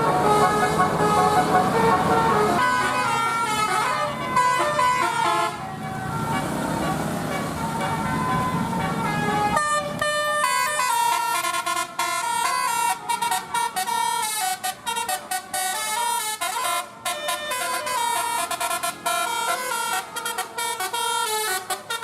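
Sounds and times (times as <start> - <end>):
bus musical horn melody: 0.0 - 22.0.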